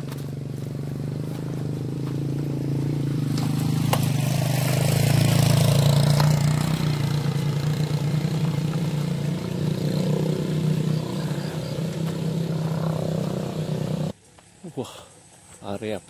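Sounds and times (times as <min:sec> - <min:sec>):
motorcycle engine passing by: 0:00.0 - 0:14.2.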